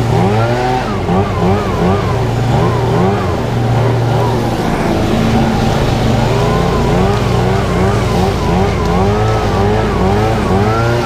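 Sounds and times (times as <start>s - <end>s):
leaf blower running: 0.0s - 11.0s.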